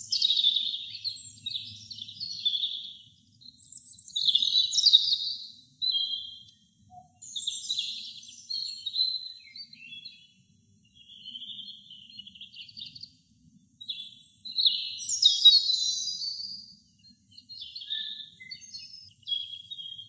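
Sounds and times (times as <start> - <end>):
robin singing: 0.0 - 20.0.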